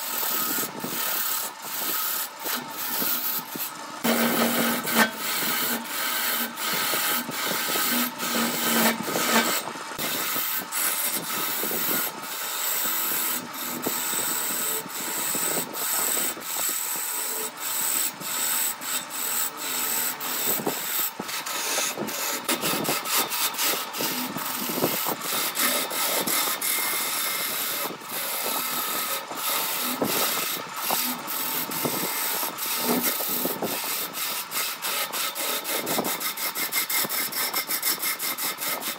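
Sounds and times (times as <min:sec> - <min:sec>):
lathe tool scraping wood: 0:00.0 - 0:38.9.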